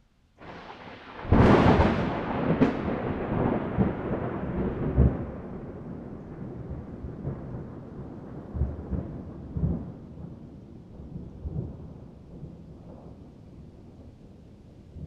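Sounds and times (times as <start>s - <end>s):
rumbling thunder: 0.4s - 14.2s.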